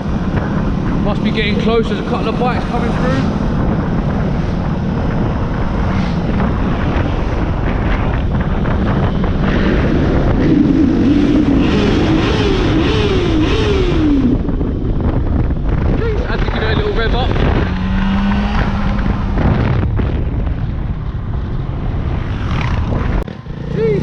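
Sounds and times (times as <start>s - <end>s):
motorcycle engine accelerating: 0.0s - 24.0s
wind rush on microphone: 0.0s - 24.0s.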